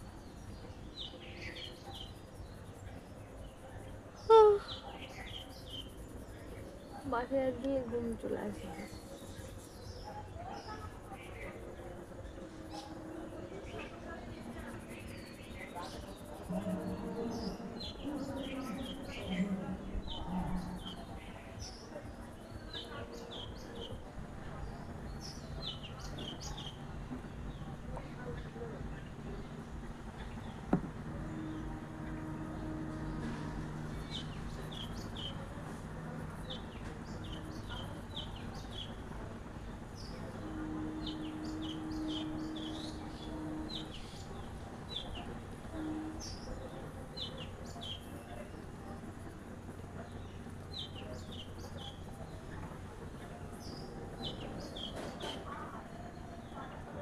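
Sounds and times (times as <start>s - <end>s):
low hum: 0.0s - 54.9s
small birds chirping: 0.0s - 56.9s
steady background noise: 0.0s - 57.0s.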